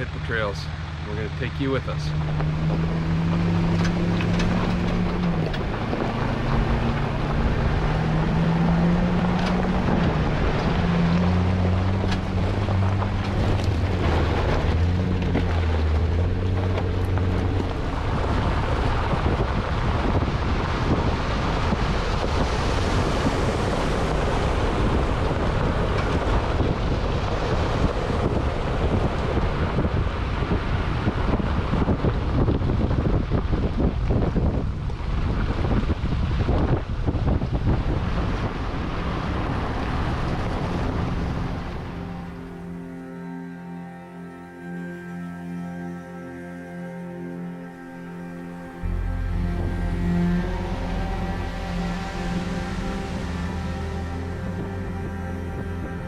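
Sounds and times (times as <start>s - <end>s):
vehicle engine shifting pitch: 0.0s - 56.0s
wind and road noise: 0.0s - 56.0s.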